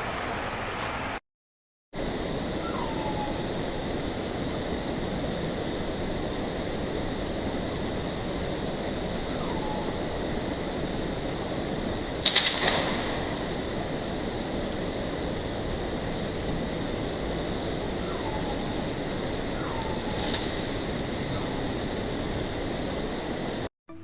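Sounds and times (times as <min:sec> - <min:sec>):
steady rushing noise: 0:02.0 - 0:23.7.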